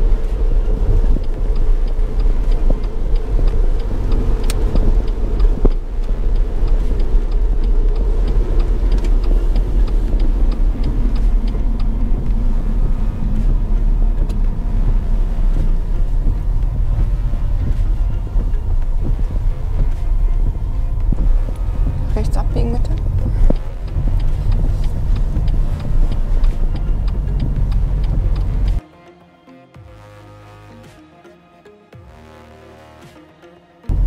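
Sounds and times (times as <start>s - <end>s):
turn indicator ticking: 0.0s - 28.8s
engine and road rumble: 0.0s - 28.9s, 32.0s - 34.0s.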